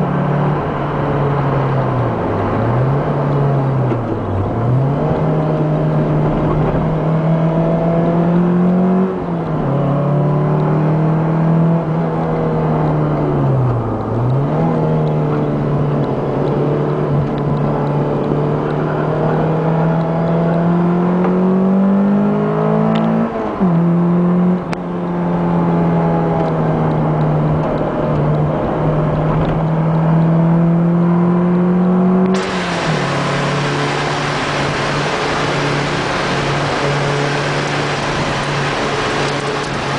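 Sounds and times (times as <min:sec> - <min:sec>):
sports car engine at high revs: 0:00.0 - 0:39.9.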